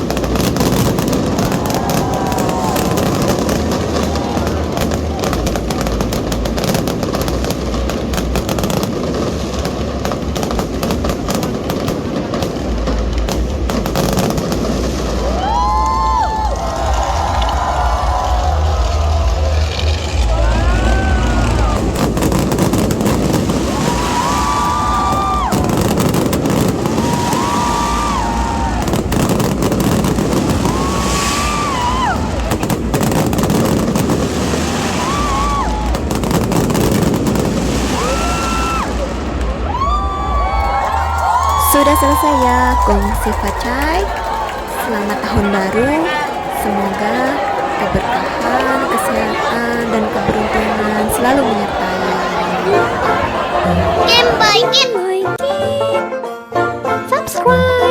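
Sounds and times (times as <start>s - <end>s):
rising firework whistle: 0.0s - 7.6s, 13.9s - 54.5s
fireworks crackling and banging: 0.0s - 54.6s.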